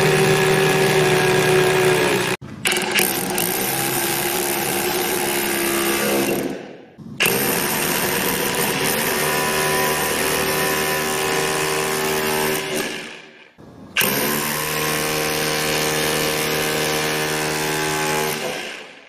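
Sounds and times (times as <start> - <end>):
rotary hammer chiselling concrete: 0.0 - 19.0.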